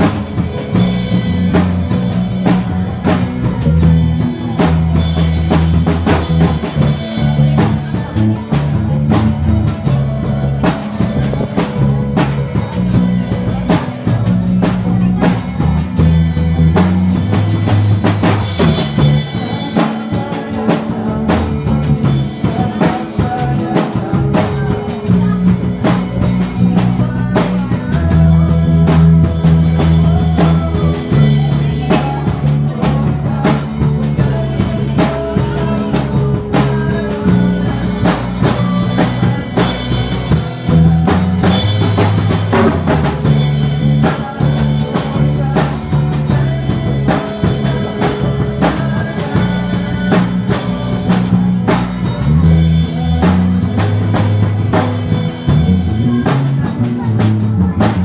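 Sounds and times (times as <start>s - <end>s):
bass line: 0.0s - 58.0s
drum kit beat: 0.0s - 58.0s
guitar: 0.0s - 58.0s
live band playing: 0.0s - 58.0s.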